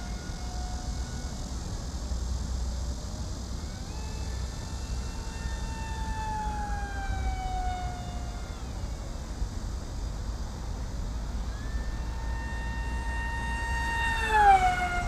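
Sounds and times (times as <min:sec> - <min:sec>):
electric motor and propeller whining: 0:00.0 - 0:15.0.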